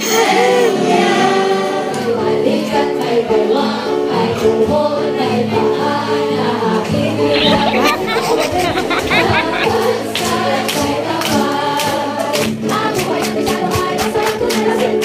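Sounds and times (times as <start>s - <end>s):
group singing worship song: 0.0s - 15.0s.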